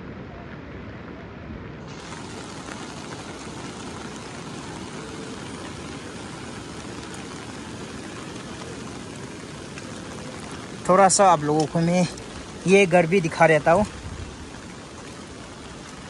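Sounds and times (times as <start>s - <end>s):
wind rumble on microphone: 0.0s - 16.0s
rain rushing: 1.8s - 16.0s.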